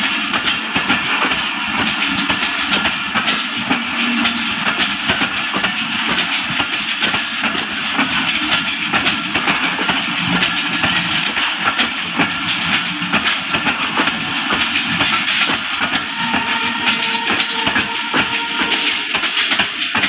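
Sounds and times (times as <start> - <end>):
train rumble: 0.0 - 20.0
train wheels clattering on rails: 0.0 - 20.0.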